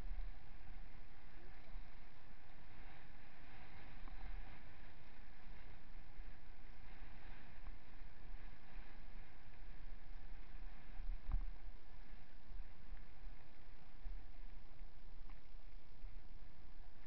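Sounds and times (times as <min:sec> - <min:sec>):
bike tyres rolling on dirt: 0:00.0 - 0:17.0
wind on microphone: 0:00.0 - 0:17.0.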